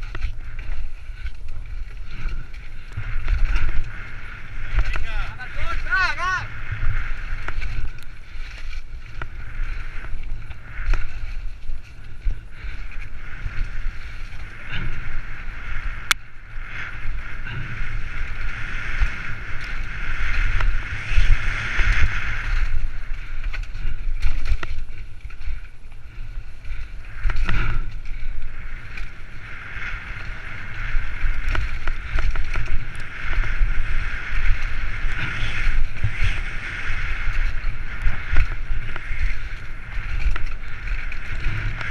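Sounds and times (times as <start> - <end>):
bike tyres rolling over dirt: 0.0 - 41.9
wind buffeting camera: 0.0 - 41.9.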